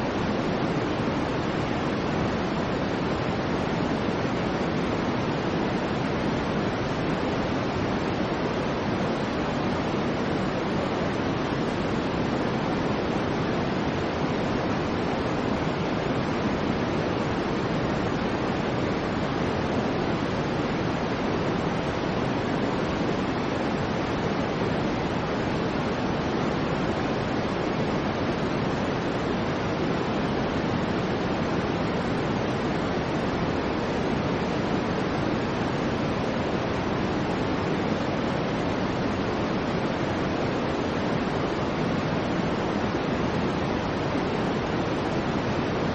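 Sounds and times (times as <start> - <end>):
soft white noise: 0.0 - 45.9.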